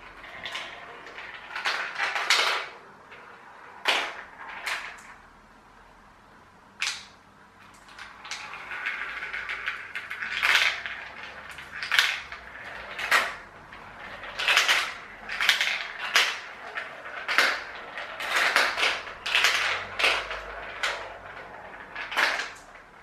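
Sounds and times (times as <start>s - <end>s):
marbles clattering down a track: 0.0s - 5.3s, 6.8s - 23.0s.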